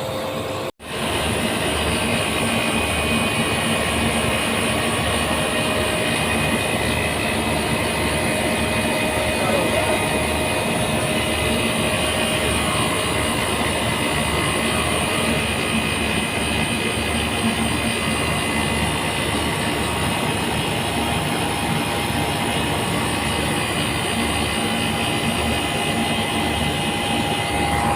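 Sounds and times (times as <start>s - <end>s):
air conditioning unit humming: 0.0s - 27.9s.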